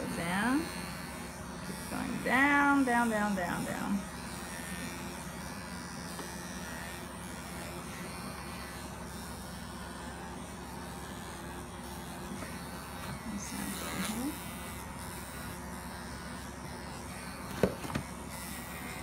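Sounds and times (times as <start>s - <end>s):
electric clippers buzzing: 0.0s - 19.0s.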